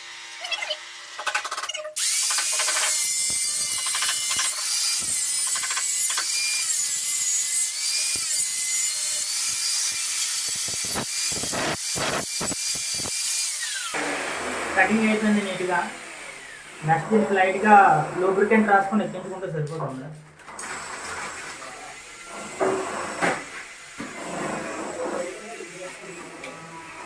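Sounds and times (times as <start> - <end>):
power saw cutting pipe: 0.0 - 19.2, 20.5 - 27.0.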